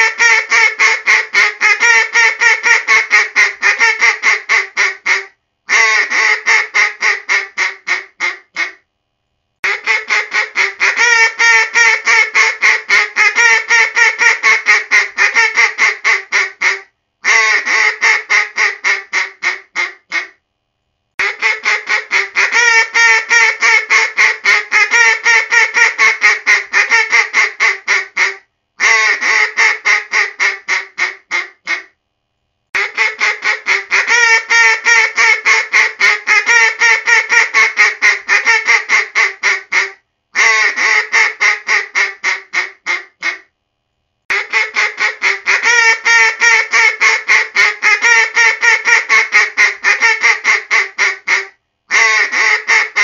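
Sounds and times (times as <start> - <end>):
duck quacks: 0.0 - 8.8, 9.6 - 20.4, 21.2 - 32.0, 32.8 - 43.5, 44.3 - 53.0.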